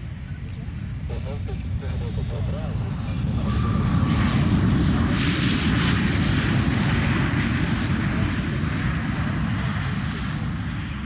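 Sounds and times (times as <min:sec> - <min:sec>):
jet engines running loud: 0:00.0 - 0:11.0.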